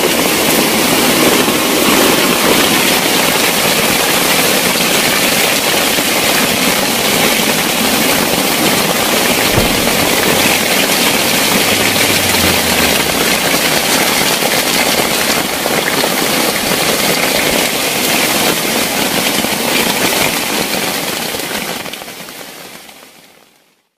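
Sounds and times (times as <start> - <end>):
heavy rain on plastic tarp: 0.0 - 23.9.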